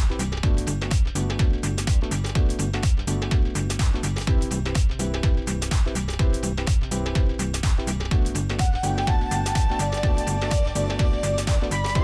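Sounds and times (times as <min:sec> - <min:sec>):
kick drum beat: 0:00.0 - 0:12.0.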